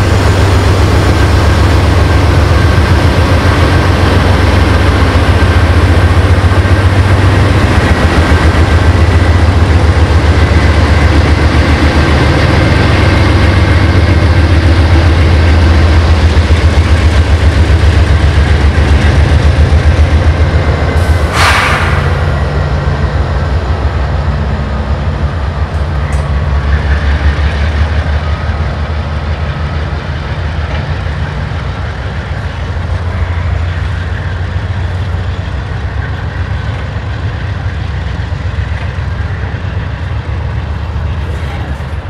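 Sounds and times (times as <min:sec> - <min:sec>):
freight cars rumbling on rails: 0:00.0 - 0:42.0
locomotive engine drone: 0:00.0 - 0:42.0.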